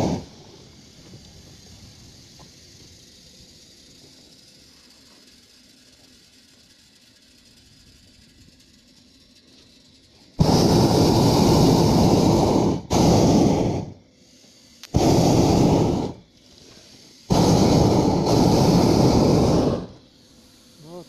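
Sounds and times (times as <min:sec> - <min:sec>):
propane burner blasts: 0:00.0 - 0:21.0.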